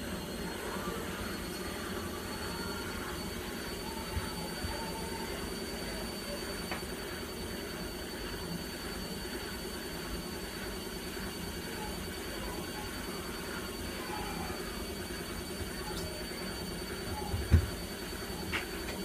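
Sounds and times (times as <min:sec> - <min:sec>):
washing machine rumbling: 0:00.0 - 0:19.0.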